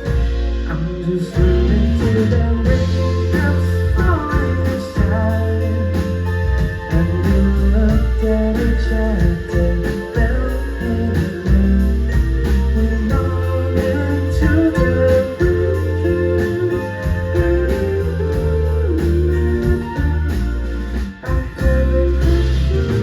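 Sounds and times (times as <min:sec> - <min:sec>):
band playing a song: 0:00.0 - 0:23.0
bass line: 0:00.0 - 0:23.0
person singing: 0:00.0 - 0:23.0.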